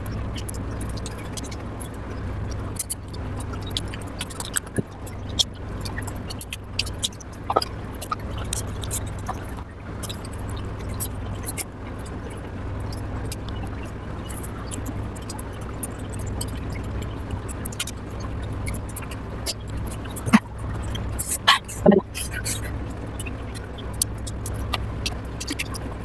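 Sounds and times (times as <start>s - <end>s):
steady low hum: 0.0s - 26.0s
wet mouth clicks and chewing: 0.0s - 26.0s.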